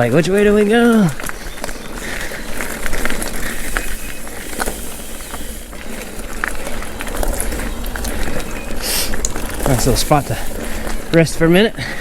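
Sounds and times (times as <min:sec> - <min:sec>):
bike clicks and rattles: 0:00.0 - 0:12.0
bike tyre and drivetrain noise: 0:00.0 - 0:12.0.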